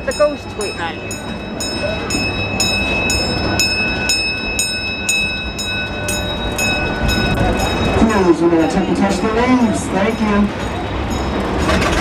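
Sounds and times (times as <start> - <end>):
train bell ringing: 0.0 - 12.0
train running rumble: 0.0 - 12.0.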